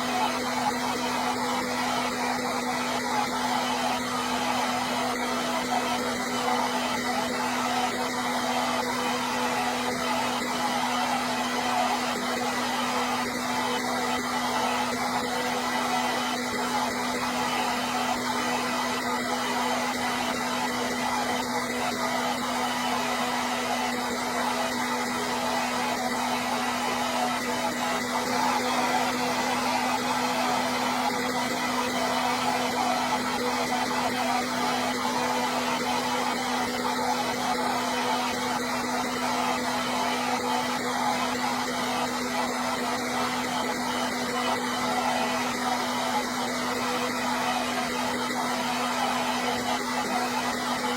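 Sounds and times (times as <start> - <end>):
hair dryer running: 0.0 - 50.9.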